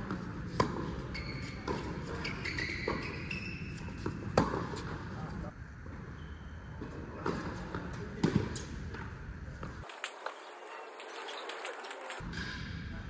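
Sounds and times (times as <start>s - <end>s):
tennis balls struck and bouncing: 0.0s - 5.0s, 6.8s - 12.6s.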